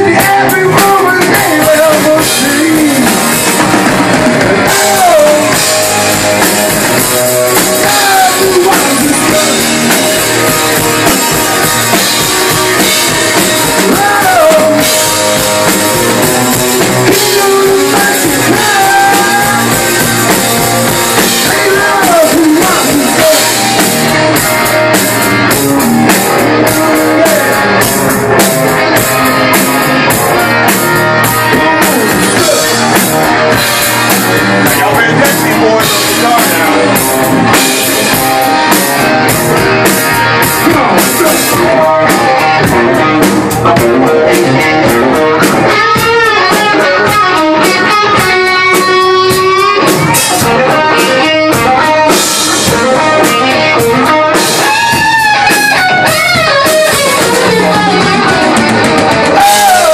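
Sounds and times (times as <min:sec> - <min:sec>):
lead guitar bending notes: 0:00.0 - 0:59.9
rock band playing: 0:00.0 - 0:59.9.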